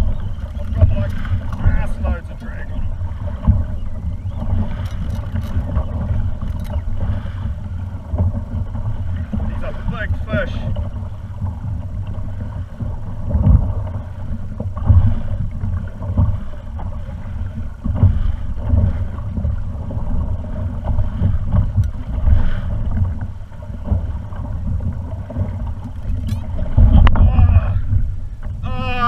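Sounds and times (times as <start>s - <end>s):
water slapping against hull: 0.0s - 29.0s
wind rumbling on microphone: 0.0s - 29.0s.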